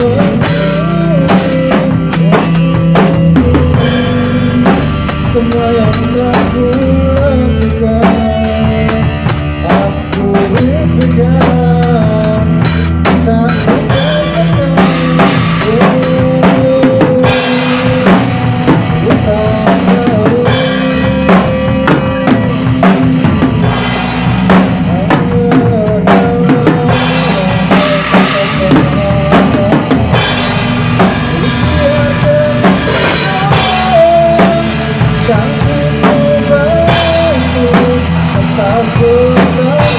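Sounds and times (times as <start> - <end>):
drum kit groove: 0.0 - 39.9
recorded song: 0.0 - 39.9.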